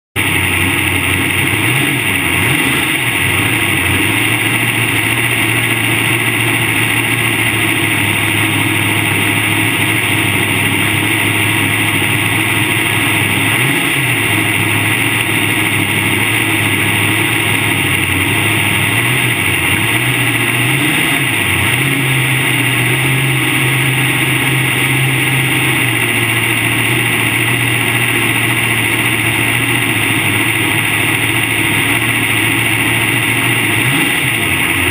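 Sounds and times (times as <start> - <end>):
race car engine idling: 0.2 - 34.9.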